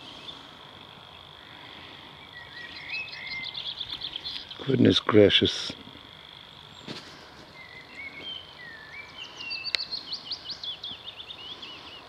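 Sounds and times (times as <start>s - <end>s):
songbird warbling and chirping: 0.0s - 12.0s.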